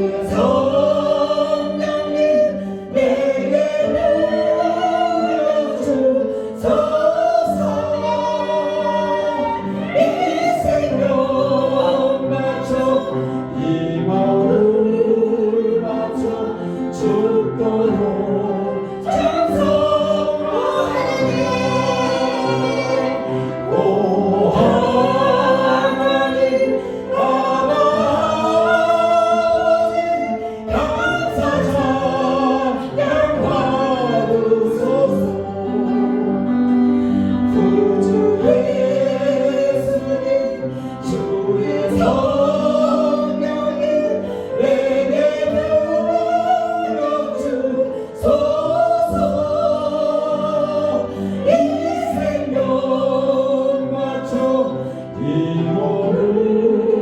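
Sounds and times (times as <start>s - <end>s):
congregation singing: 0.0s - 57.0s
steady musical backing: 0.0s - 57.0s.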